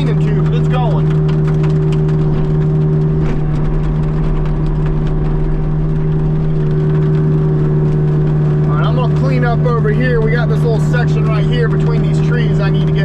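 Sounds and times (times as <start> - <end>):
excavator and mulcher droning: 0.0 - 13.0.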